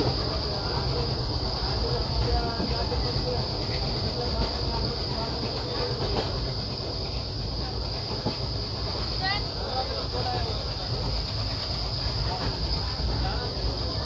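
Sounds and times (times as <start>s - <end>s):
insects droning: 0.0s - 14.0s
train rumbling on track: 0.0s - 14.0s.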